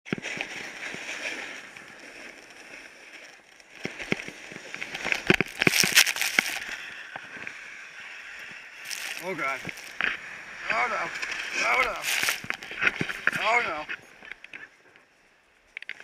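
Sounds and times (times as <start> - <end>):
body sliding through snow: 0.2 - 14.2
snowboard scraping on snow: 0.2 - 14.2.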